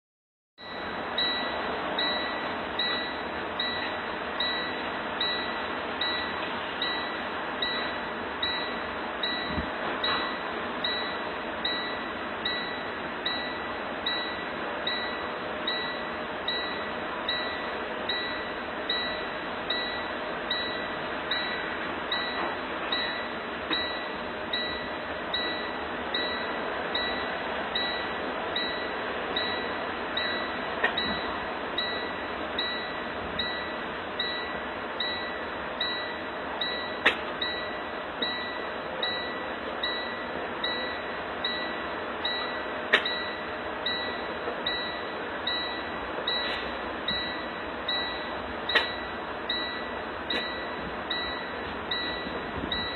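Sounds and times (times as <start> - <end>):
high chime: 0.6 - 52.9.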